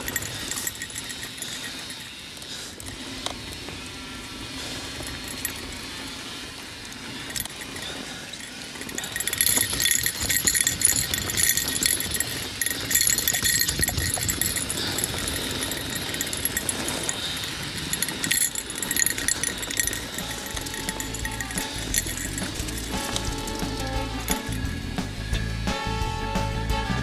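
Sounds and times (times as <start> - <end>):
mountain bike rattling downhill: 0.0 - 25.5.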